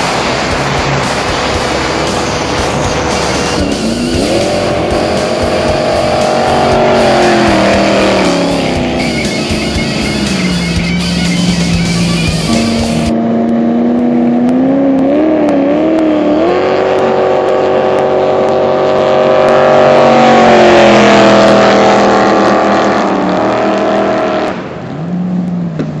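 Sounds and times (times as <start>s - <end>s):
jet boat engine revving: 0.0s - 26.0s.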